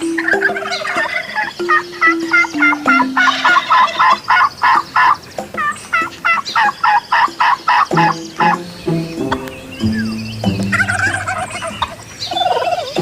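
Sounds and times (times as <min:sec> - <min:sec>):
turkeys gobbling: 0:00.0 - 0:13.0.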